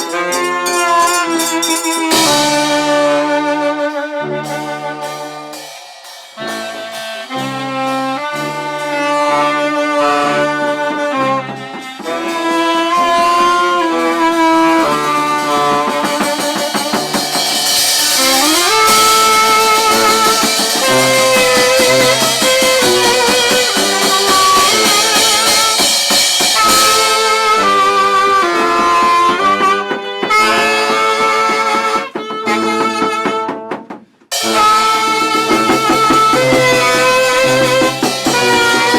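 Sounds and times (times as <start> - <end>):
drum kit: 0.0 - 38.9
horn band playing melody: 0.0 - 38.9.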